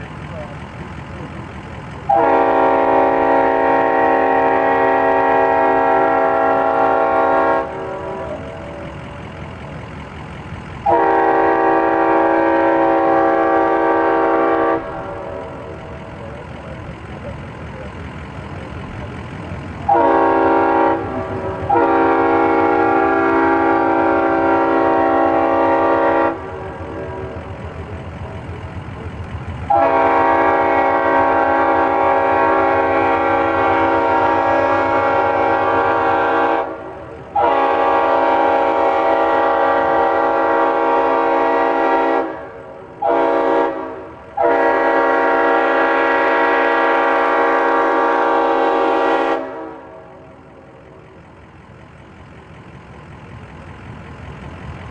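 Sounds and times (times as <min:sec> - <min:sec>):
train air horn blasts: 0:01.8 - 0:09.7, 0:10.6 - 0:17.2, 0:19.0 - 0:28.7, 0:29.6 - 0:51.1.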